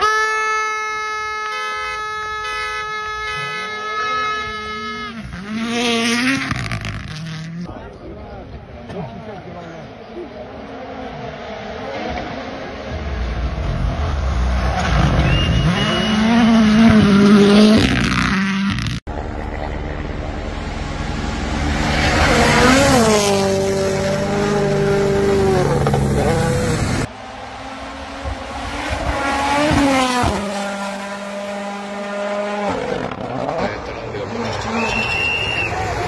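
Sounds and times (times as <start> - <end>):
rally cars passing at speed: 3.1 - 7.7, 8.3 - 36.0.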